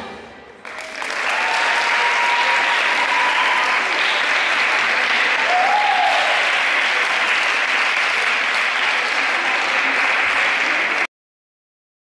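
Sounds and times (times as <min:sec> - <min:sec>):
audience applauding: 0:00.6 - 0:11.1.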